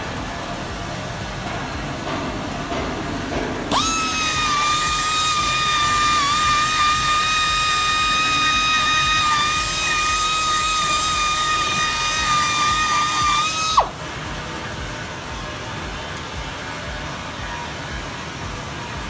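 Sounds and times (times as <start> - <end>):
welding arc hissing and whining: 0.0 - 19.0.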